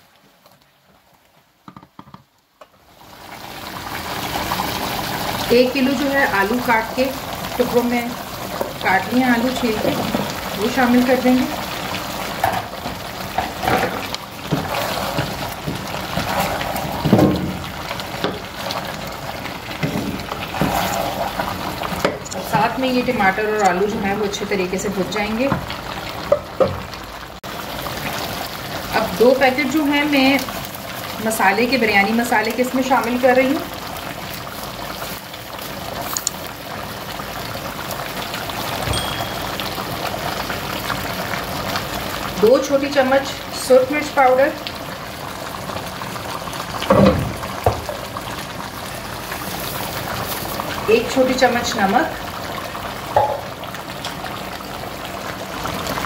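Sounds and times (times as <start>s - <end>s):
food frying in oil: 0.0s - 56.0s.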